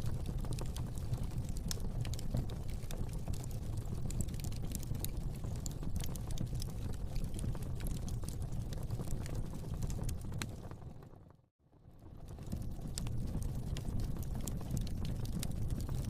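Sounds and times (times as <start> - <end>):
fire crackling and popping: 0.0 - 11.3, 12.0 - 16.0
low fire rumble: 0.0 - 16.0.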